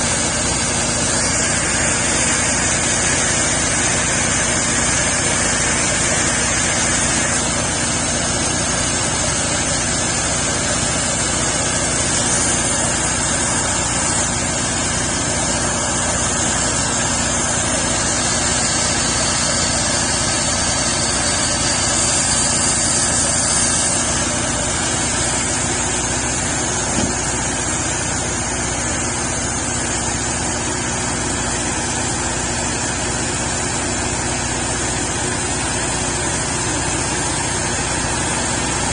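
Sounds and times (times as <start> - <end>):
saw blade cutting log: 0.0 - 38.9
sawmill engine humming: 0.0 - 38.9.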